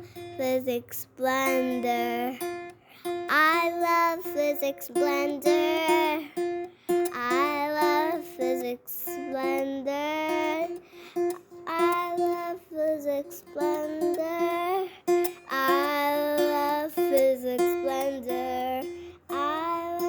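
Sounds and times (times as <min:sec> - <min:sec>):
high child-like voice singing: 0:00.0 - 0:20.0
plucked strings: 0:01.2 - 0:20.0.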